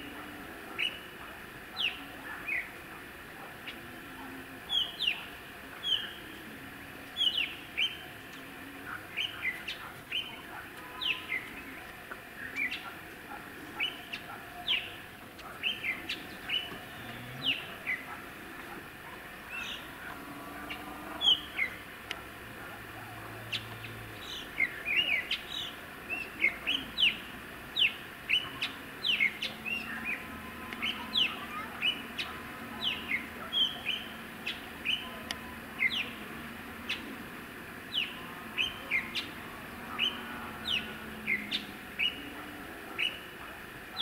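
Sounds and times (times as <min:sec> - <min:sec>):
songbird chirping: 0:00.0 - 0:44.0.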